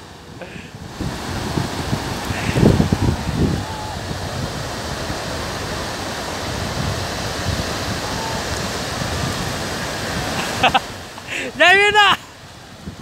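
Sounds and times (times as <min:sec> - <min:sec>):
surf washing over sandy beach: 0:00.0 - 0:13.0.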